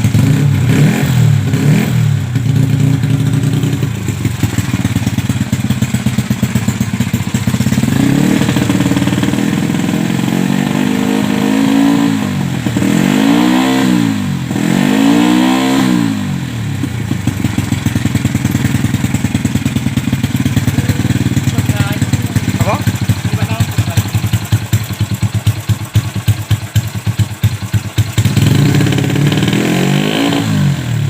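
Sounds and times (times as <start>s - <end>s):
motorcycle engine idling: 0.0s - 15.2s, 16.0s - 29.7s
motorcycle engine revving: 0.0s - 31.0s.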